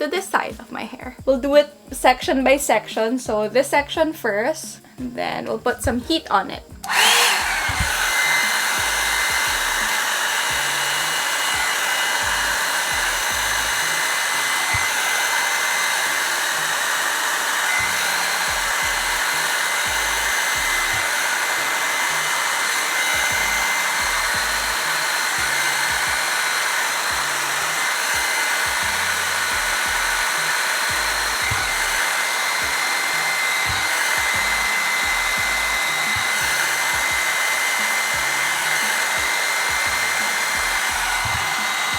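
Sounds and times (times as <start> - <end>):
hot-air brush blowing: 6.7 - 41.9.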